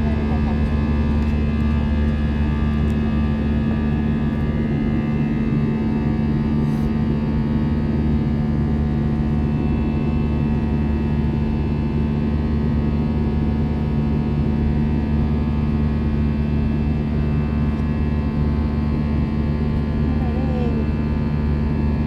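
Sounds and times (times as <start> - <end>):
airliner engine drone in cabin: 0.0 - 22.0.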